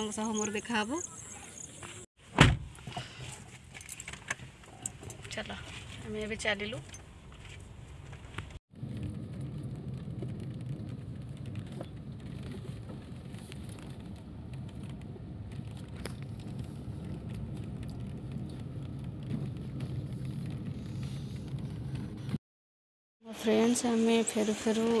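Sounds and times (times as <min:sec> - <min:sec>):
road and engine rumble in car: 0:00.0 - 0:22.4.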